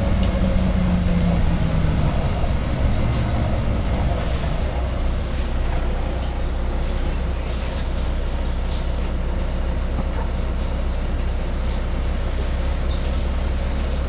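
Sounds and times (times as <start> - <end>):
bus diesel engine humming: 0.0 - 14.0
road noise: 0.0 - 14.0.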